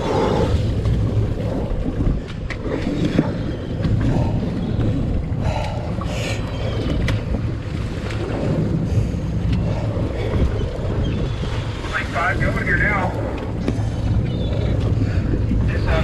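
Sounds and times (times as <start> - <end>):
boat engine rumble: 0.0 - 16.0
wind buffeting microphone: 0.0 - 16.0.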